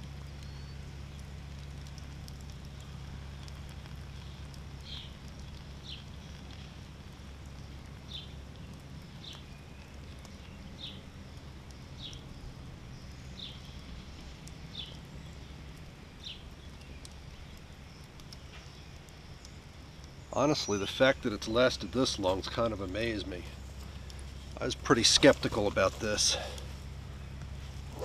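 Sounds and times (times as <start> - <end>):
steady low rumble: 0.0 - 28.0
bird chirping: 0.2 - 1.2, 3.5 - 6.7, 7.4 - 28.0.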